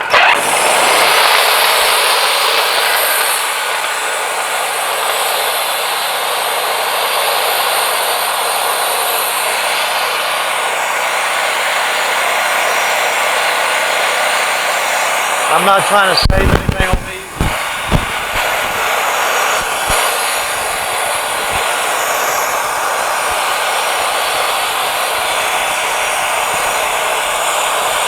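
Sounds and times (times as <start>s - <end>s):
band sawmill cutting log: 0.0s - 28.0s.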